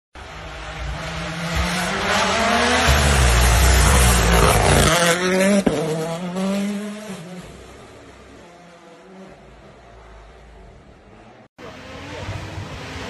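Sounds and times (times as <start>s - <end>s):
rally car engine passing: 0.2s - 13.0s.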